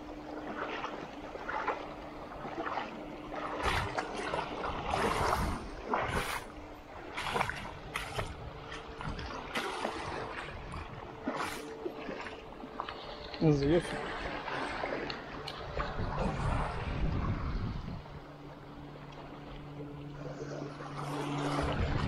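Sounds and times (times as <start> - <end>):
seawater sloshing over rock: 0.0 - 22.0.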